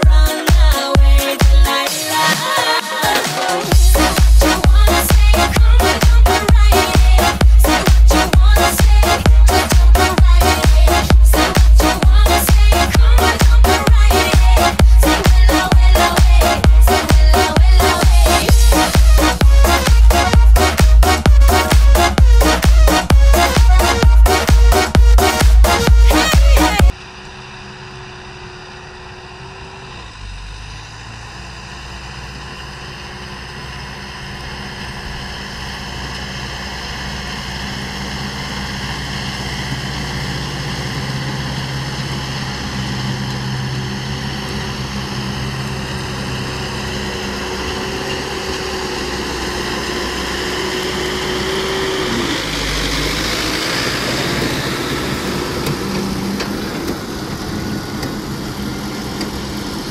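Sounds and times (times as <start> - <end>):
baler machinery running: 0.0 - 59.9
tractor engine running: 0.0 - 59.9.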